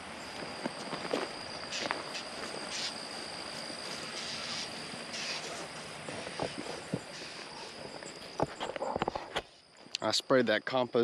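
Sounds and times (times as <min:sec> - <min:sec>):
high-pitched insect drone: 0:00.0 - 0:11.0
footsteps crunching on ground: 0:00.2 - 0:10.0.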